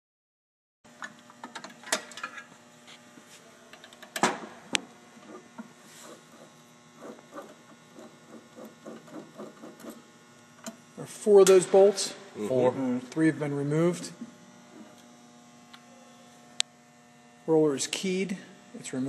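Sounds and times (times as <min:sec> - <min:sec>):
steady electrical hum: 0:00.9 - 0:19.0.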